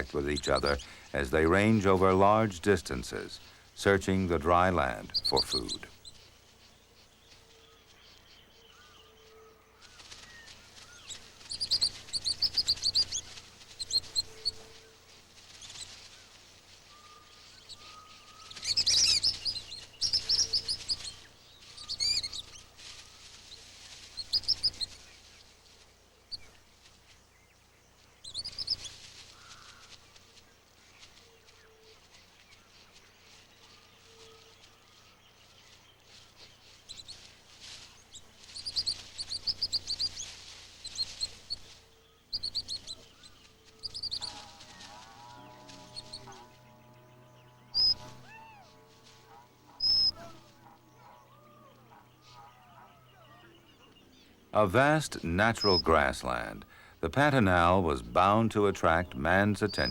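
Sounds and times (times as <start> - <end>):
coatis chirping: 0.0 - 59.9.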